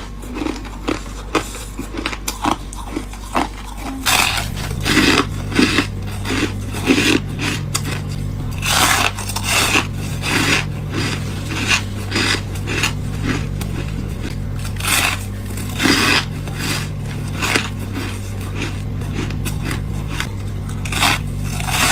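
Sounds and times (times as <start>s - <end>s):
steady low hum: 0.0s - 21.9s
frost crunching bites: 0.1s - 21.9s.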